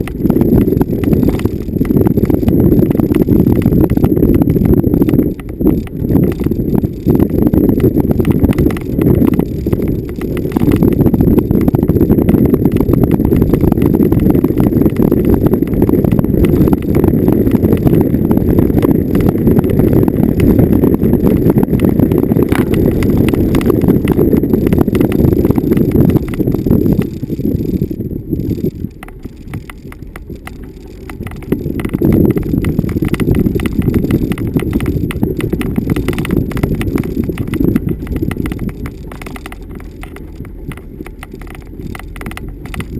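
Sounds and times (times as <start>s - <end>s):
vehicle rattling over bumpy ground: 0.0s - 42.9s.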